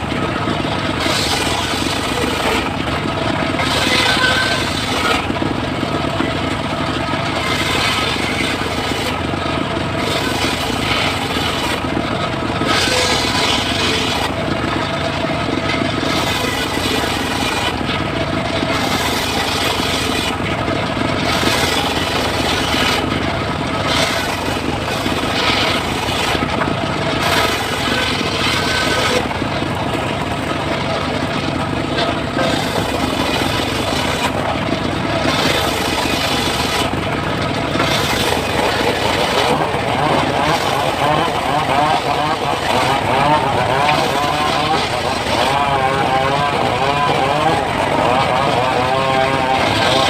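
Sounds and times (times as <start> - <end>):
circular saw cutting wood: 0.0 - 50.0.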